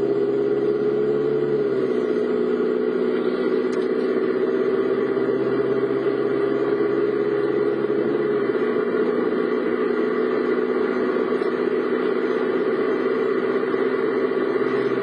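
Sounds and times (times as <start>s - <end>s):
car engine droning: 0.0s - 15.0s
road noise: 0.0s - 15.0s.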